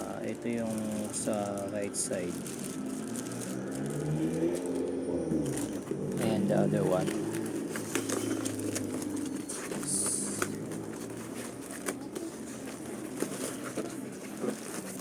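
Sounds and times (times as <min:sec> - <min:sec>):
packaging rustle: 0:00.0 - 0:15.0.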